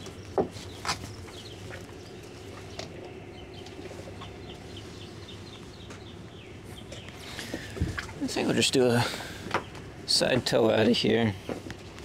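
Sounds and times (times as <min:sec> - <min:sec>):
bird chirping: 0:00.0 - 0:11.1
low steady hum: 0:00.0 - 0:12.0.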